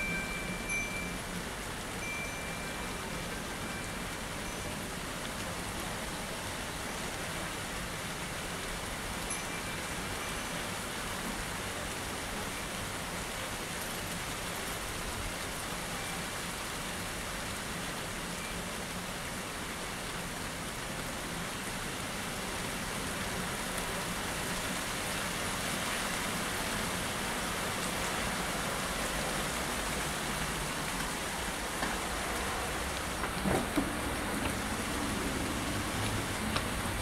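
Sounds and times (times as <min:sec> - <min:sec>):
heavy rain on wet pavement: 0:00.0 - 0:37.0.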